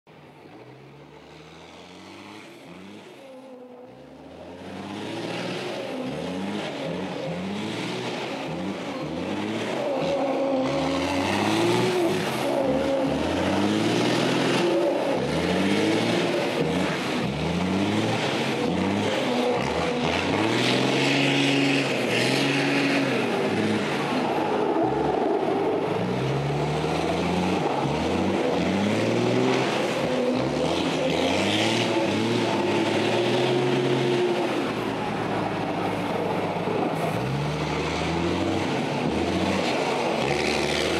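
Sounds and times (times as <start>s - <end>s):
diesel truck engine revving: 0.3s - 40.9s.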